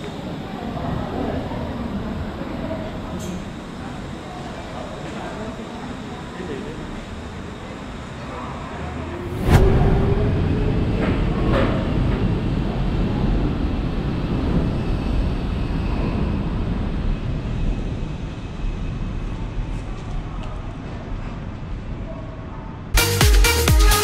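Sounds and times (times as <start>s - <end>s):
monorail train rumble and motor whine: 0.0s - 23.0s.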